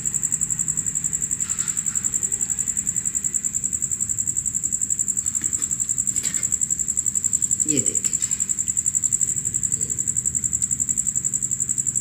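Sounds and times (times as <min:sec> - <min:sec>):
cricket trilling: 0:00.0 - 0:12.0.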